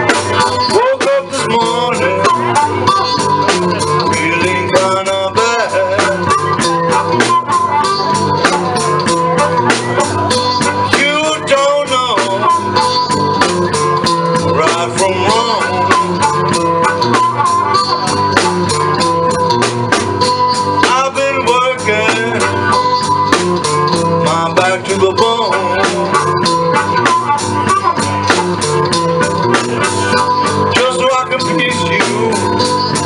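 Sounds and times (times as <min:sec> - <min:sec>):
electric guitar solo: 0:00.0 - 0:20.8, 0:21.4 - 0:33.0
drum kit beat: 0:00.0 - 0:33.0.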